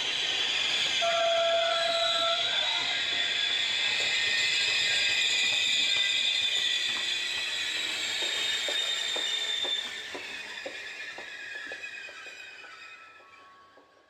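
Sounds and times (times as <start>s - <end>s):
train wheels squealing: 0.0s - 14.0s.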